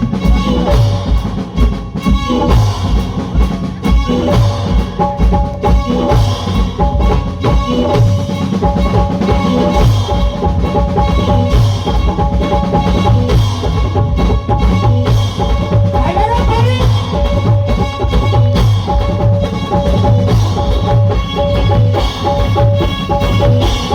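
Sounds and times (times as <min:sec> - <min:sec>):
steady drum beat: 0:00.0 - 0:23.9.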